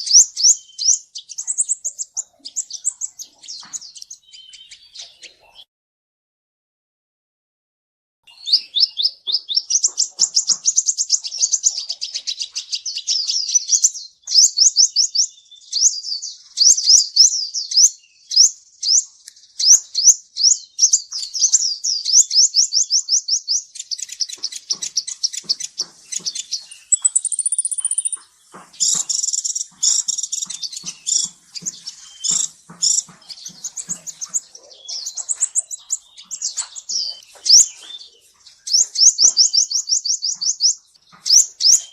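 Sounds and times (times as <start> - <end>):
bird singing rapid high notes: 0.0 - 5.5, 8.3 - 41.9.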